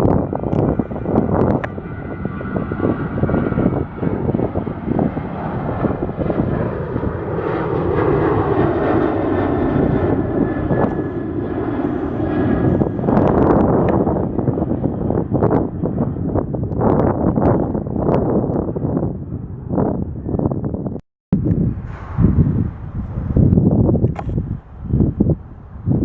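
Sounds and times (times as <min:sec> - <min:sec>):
airliner engines rumbling: 0:00.0 - 0:26.0
wind buffeting microphone: 0:00.0 - 0:26.0.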